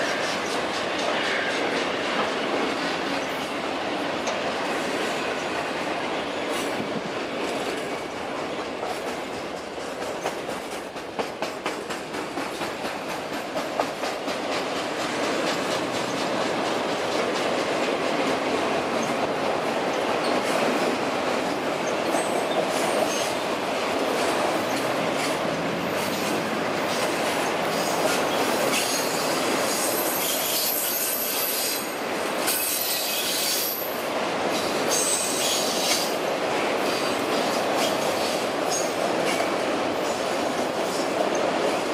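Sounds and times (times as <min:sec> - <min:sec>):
train wheels clicking: 0:00.0 - 0:41.9.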